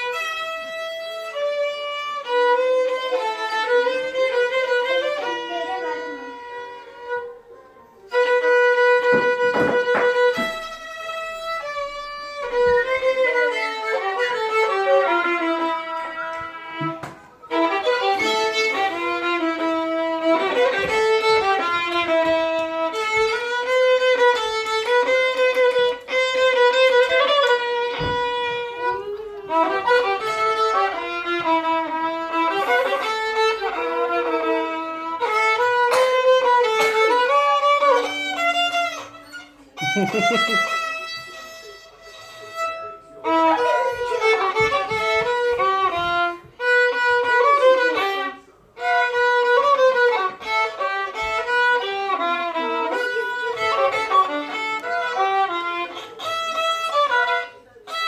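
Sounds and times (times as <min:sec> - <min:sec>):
solo violin melody: 0:00.0 - 0:58.0.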